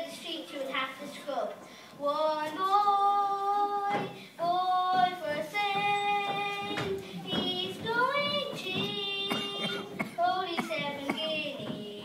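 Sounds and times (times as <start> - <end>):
young children singing: 2.0 - 12.0.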